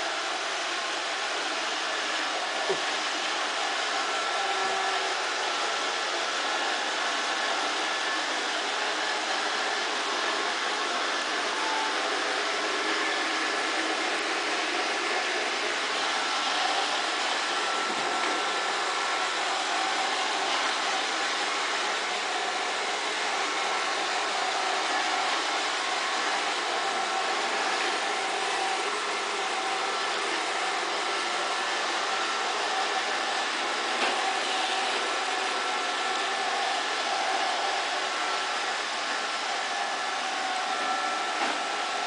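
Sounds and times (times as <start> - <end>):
robot vacuum whirring: 0.0 - 42.0.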